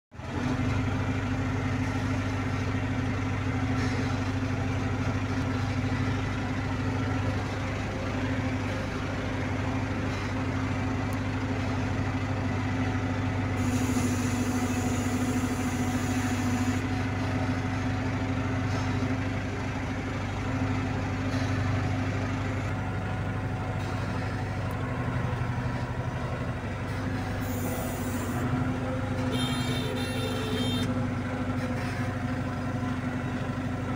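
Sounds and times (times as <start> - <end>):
crane diesel engine running: 0.1 - 33.9.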